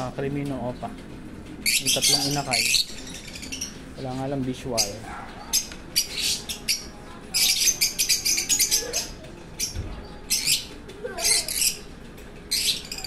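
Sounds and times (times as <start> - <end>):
lovebirds chirping shrilly: 1.6 - 13.0.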